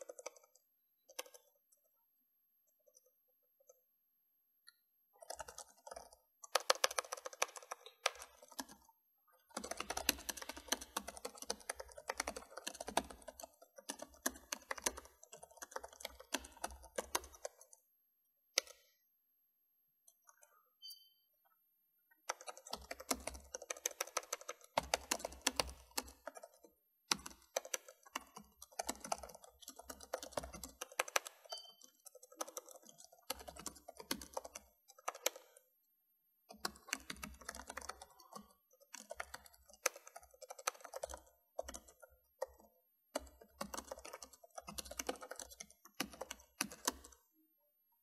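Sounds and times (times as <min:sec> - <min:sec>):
fast keyboard typing: 0:00.0 - 0:01.8, 0:05.2 - 0:17.8, 0:18.6 - 0:18.8, 0:22.2 - 0:35.6, 0:36.5 - 0:47.2.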